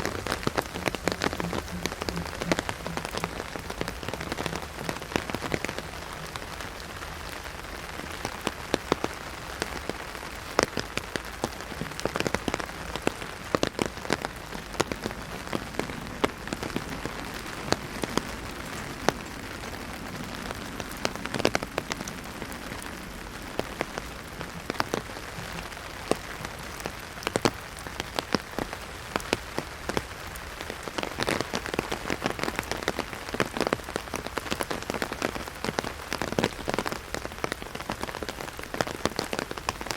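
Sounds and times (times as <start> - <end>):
heavy rain drumming on umbrella: 0.0 - 39.9.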